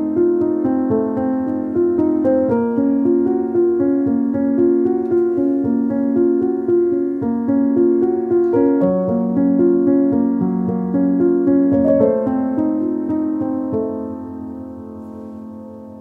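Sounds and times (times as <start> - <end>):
piano music over low pulse: 0.0 - 16.0.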